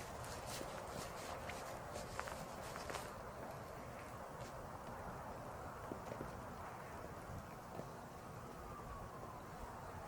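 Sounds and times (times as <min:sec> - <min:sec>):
blizzard wind: 0:00.0 - 0:10.0.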